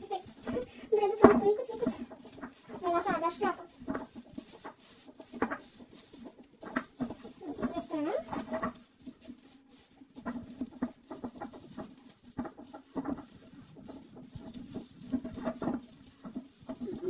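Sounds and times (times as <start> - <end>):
plastic branches rustling: 0.0 - 17.0.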